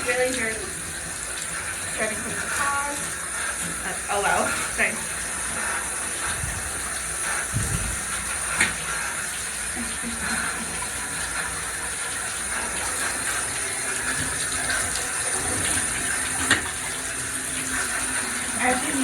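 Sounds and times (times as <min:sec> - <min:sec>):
tap water running into bathtub: 0:00.0 - 0:19.0.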